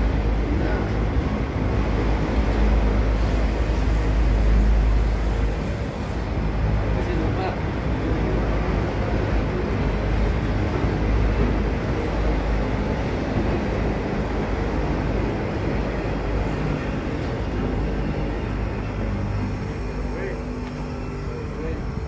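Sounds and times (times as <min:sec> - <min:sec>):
train wheels rumbling on rails: 0:00.0 - 0:19.6.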